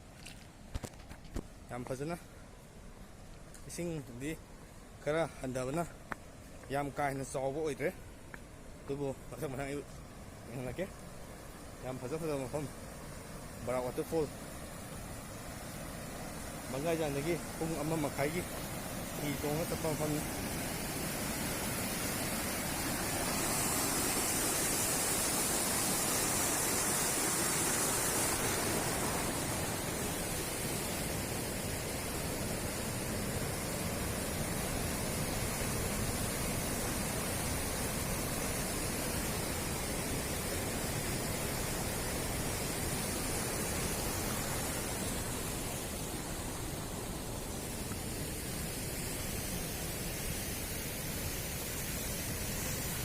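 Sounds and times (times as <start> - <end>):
waterfall rushing and splashing: 8.9 - 53.0.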